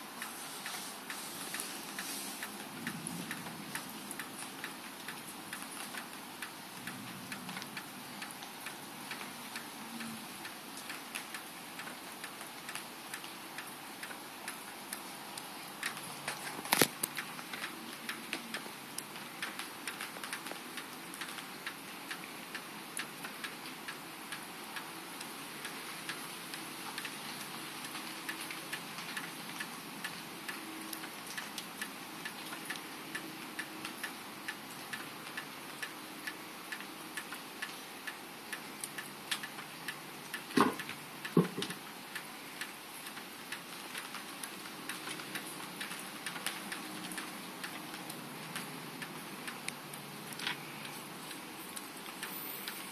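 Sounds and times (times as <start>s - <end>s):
steady hiss: 0.0s - 52.9s
light ticks: 0.2s - 52.9s.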